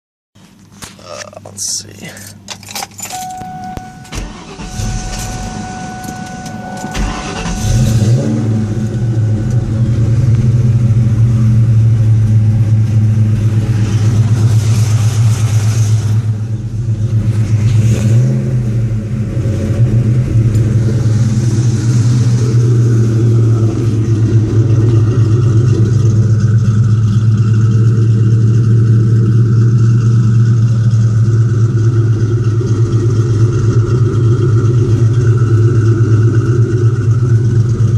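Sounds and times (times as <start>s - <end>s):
car engine starting: 0.4s - 37.9s
car engine idling loudly: 3.4s - 37.9s.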